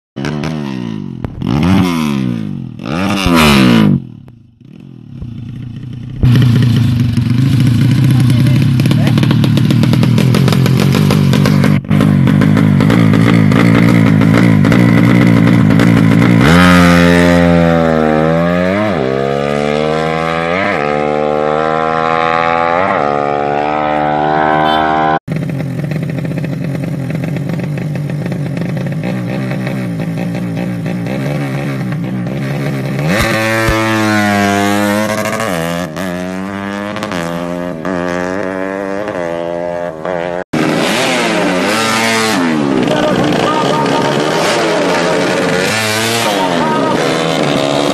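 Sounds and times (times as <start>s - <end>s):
motorcycle engine revving and accelerating: 0.2s - 47.9s.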